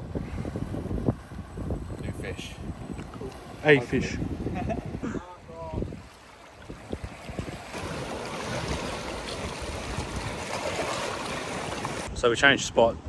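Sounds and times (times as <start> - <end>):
ocean waves rushing: 0.0 - 12.2.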